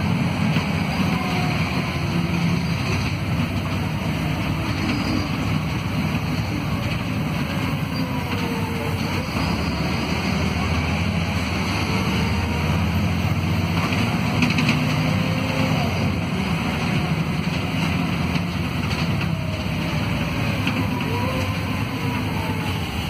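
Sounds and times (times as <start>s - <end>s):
bus engine drone: 0.0s - 23.0s
road noise: 0.0s - 23.0s.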